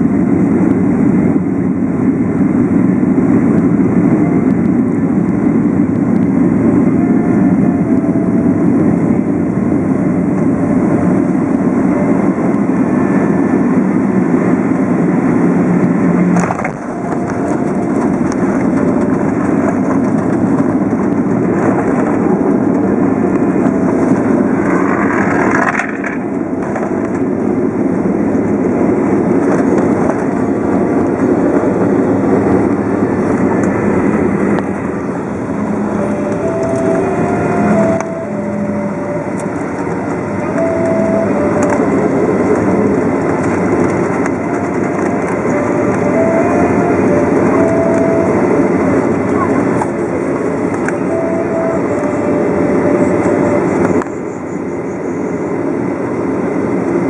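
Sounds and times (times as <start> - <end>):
airliner engine and airflow roar: 0.0 - 57.0.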